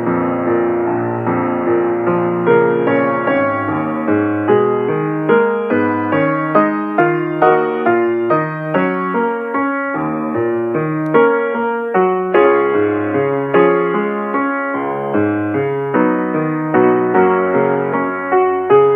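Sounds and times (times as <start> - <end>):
piano notes and chords: 0.0 - 18.9.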